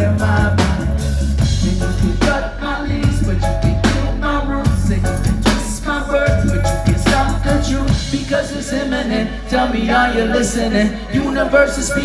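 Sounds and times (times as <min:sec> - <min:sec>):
heavy bass line: 0:00.0 - 0:12.0
reggae band playing: 0:00.0 - 0:12.0.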